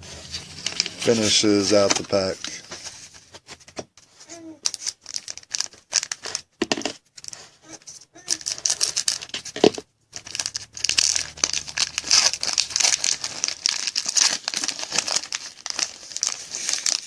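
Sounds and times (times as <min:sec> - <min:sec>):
wrapper tearing and crinkling: 0:00.3 - 0:02.8, 0:04.6 - 0:06.5, 0:07.2 - 0:17.0.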